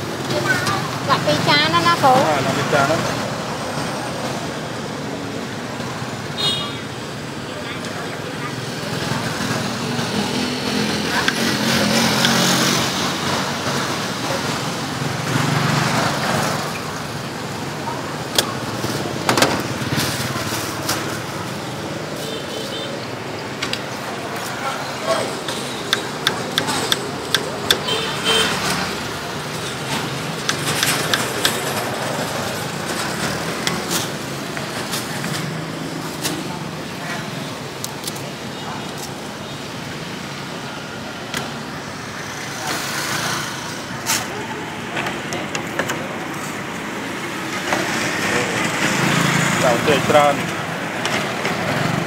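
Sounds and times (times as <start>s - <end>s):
motorbike engines passing: 0.0s - 52.0s
street traffic noise: 0.0s - 52.0s
voices in background: 0.1s - 52.0s.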